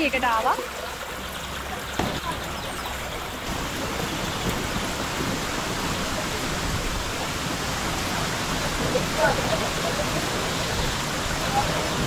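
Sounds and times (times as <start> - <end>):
waterfall cascading over rocks: 0.0 - 12.0.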